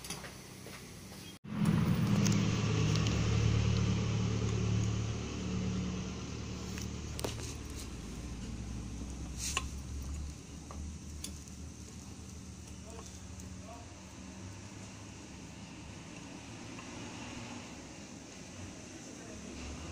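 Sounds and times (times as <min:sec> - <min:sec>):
vehicle engine humming: 0:01.4 - 0:19.9.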